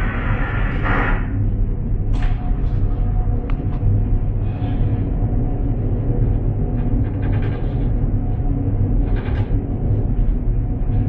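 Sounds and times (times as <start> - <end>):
ship engine rumble and hum: 0.0 - 11.0.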